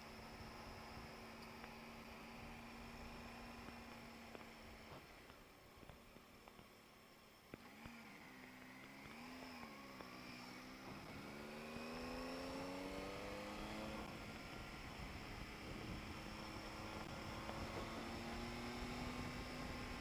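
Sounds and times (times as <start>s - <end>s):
motorcycle engine accelerating: 0.0s - 6.7s, 7.4s - 20.0s.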